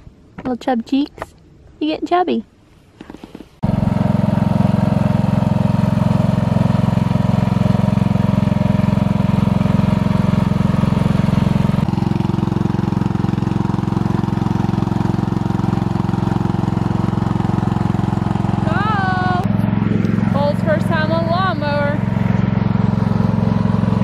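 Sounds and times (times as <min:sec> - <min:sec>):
lawn mower engine running: 0:03.6 - 0:24.0.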